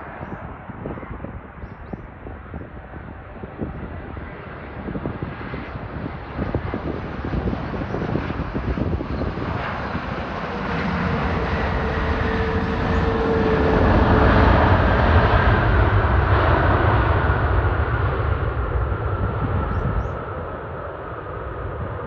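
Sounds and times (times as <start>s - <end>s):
jet engines landing: 0.0s - 22.0s.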